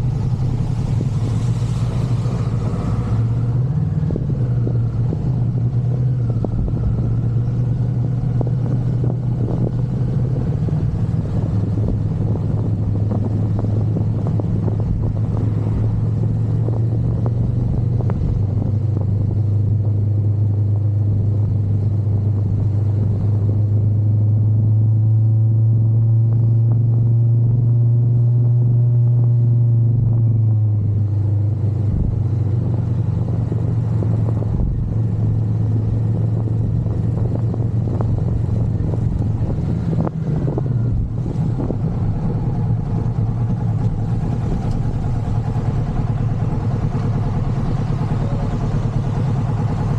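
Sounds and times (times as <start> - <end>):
motorcycle engine running: 0.0 - 49.9
wind rumble on microphone: 0.0 - 49.9.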